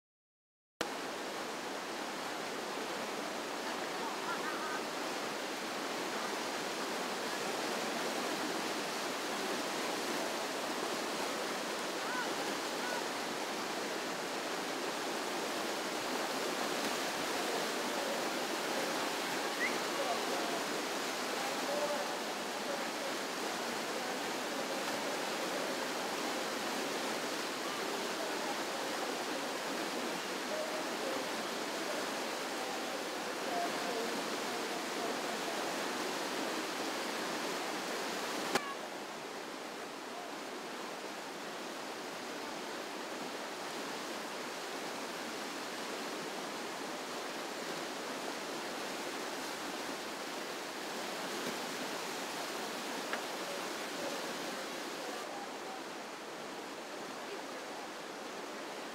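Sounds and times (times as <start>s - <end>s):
river rapids rushing: 0.8s - 58.9s.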